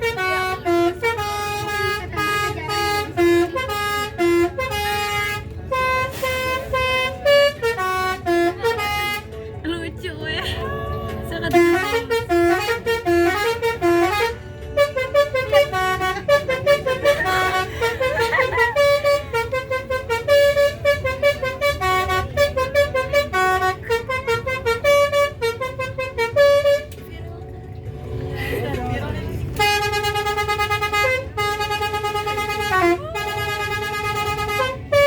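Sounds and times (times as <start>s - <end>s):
bus horn playing a melody: 0.0s - 9.6s, 10.6s - 27.0s, 29.2s - 35.0s.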